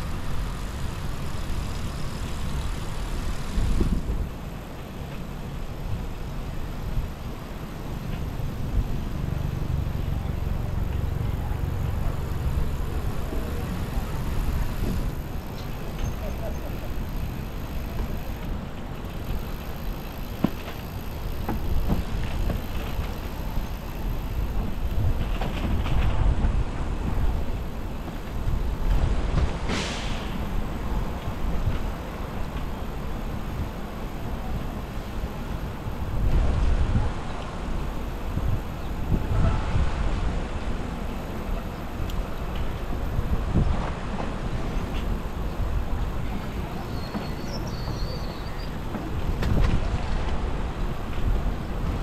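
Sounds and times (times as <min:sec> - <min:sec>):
wind buffeting microphone: 0:00.0 - 0:04.6, 0:05.8 - 0:29.8, 0:30.4 - 0:52.0
tyre and road noise: 0:00.0 - 0:52.0.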